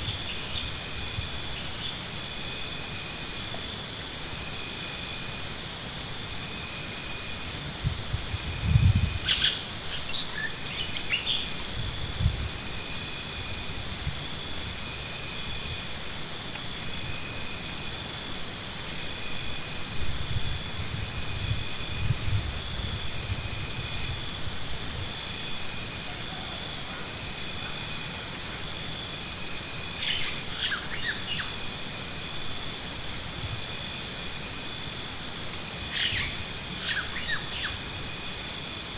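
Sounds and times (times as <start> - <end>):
insect chirping trill: 0.0 - 38.9.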